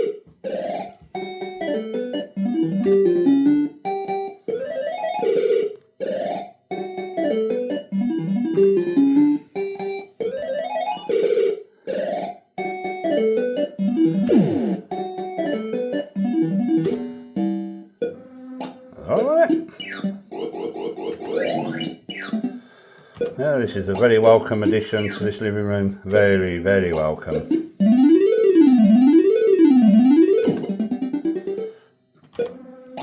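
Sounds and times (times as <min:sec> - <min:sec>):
electronic beeping tunes: 0:00.0 - 0:11.2, 0:12.0 - 0:22.6, 0:26.8 - 0:31.8, 0:32.4 - 0:33.0.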